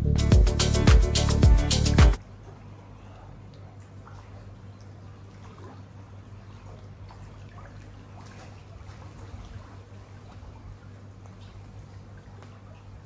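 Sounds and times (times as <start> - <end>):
low hum: 0.0 - 13.0
pool water splashing: 0.0 - 13.0.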